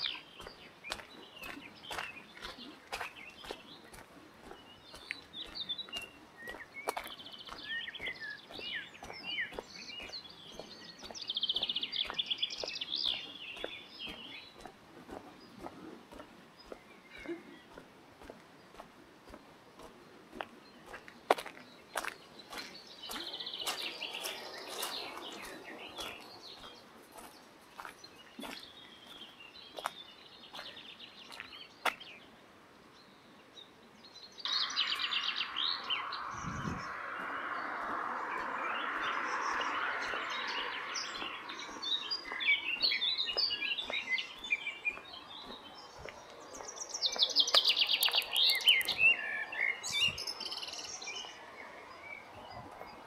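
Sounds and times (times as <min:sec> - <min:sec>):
footsteps on gravel: 0:00.0 - 0:32.1, 0:34.5 - 0:51.4
songbirds singing: 0:00.0 - 0:53.0.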